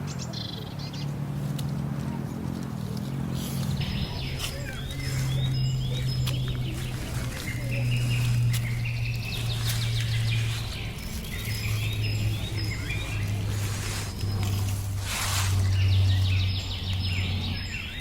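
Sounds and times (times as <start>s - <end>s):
small birds chirping: 0.0s - 18.0s
loud low steady hum: 1.0s - 18.0s.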